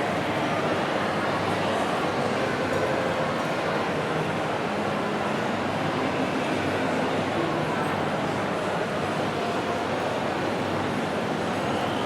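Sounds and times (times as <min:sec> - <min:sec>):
crowd of indistinct voices: 0:00.0 - 0:12.0.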